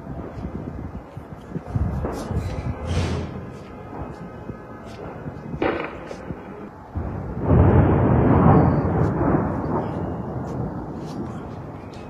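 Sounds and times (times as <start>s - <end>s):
distant explosion boom: 2.0s - 12.0s.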